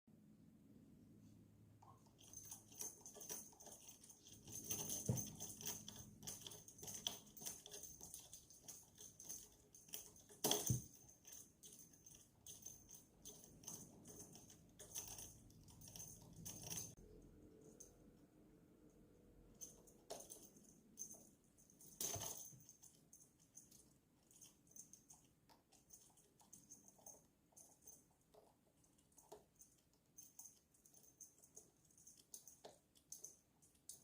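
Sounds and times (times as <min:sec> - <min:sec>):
small bell jingling: 0:01.8 - 0:17.0, 0:19.5 - 0:34.0.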